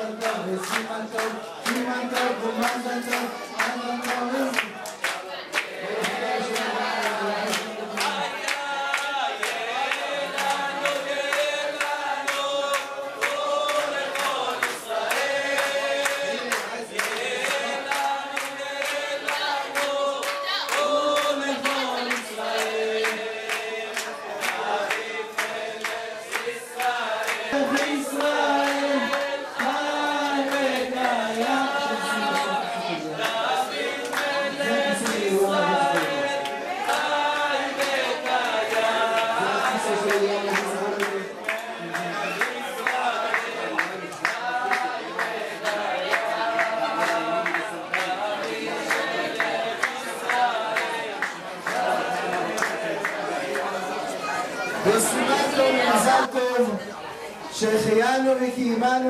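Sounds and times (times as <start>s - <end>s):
people clapping in time: 0.0s - 56.3s
congregation singing: 0.0s - 56.8s.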